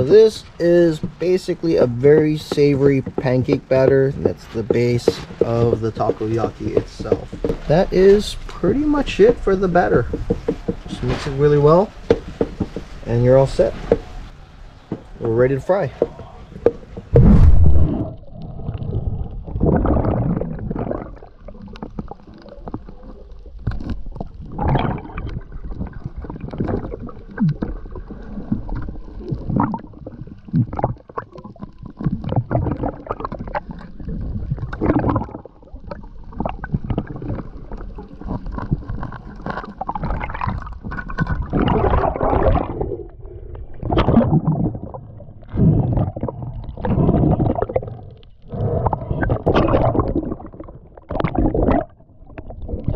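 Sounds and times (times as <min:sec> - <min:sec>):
gurgling water surges: 0:00.0 - 0:52.9
underwater rumble of moving water: 0:00.0 - 0:52.9.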